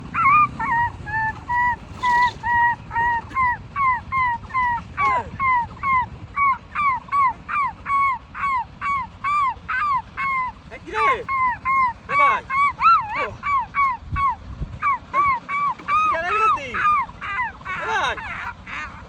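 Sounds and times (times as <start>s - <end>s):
animal making high calls: 0.0s - 19.0s.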